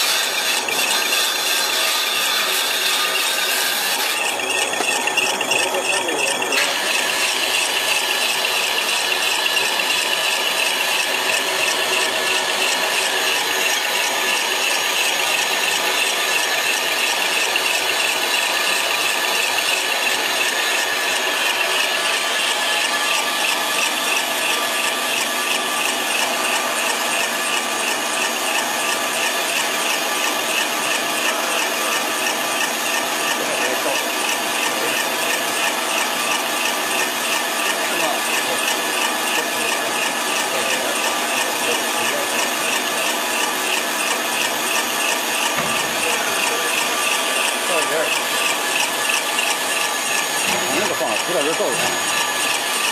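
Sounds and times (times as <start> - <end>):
machine whirring: 0.0 - 52.9.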